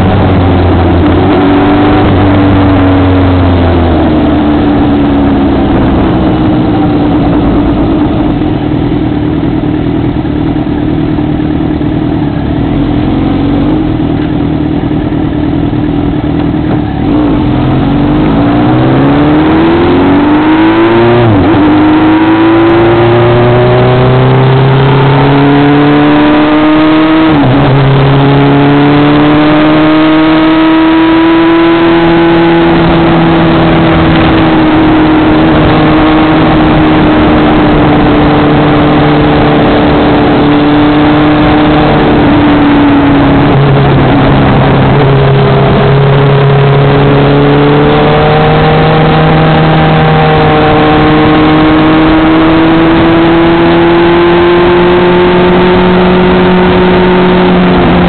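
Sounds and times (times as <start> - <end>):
vehicle engine under load: 0.0 - 58.0
wind and road rush: 0.0 - 58.0.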